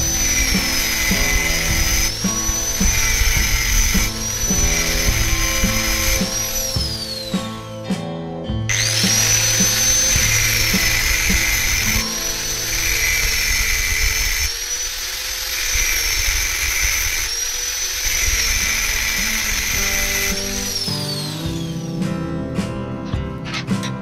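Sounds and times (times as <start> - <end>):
power tool motor whining: 0.0 - 7.8, 8.7 - 22.0
background music: 0.0 - 14.6, 15.8 - 24.0.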